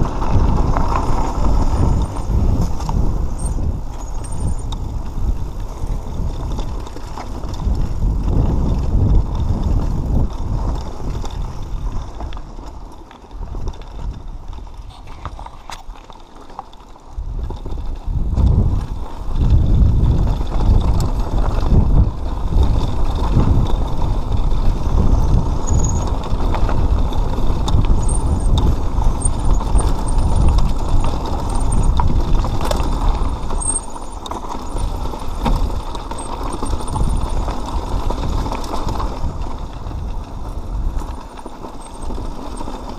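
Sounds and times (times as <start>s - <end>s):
wind buffeting microphone: 0.0s - 16.2s, 16.8s - 42.9s
bike rattling over stones: 0.0s - 42.9s
bike tyres rumbling over rocks: 0.0s - 42.9s.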